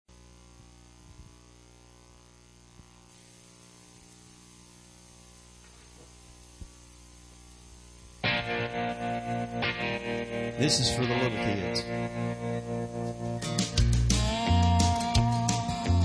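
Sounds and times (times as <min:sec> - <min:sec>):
electrical mains hum: 0:00.1 - 0:16.0.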